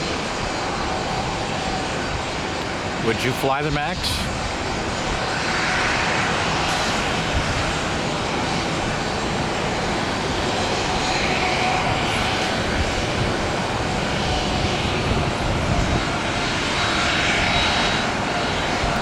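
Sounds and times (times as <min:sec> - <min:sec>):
airliner jet engines: 0:00.0 - 0:19.0.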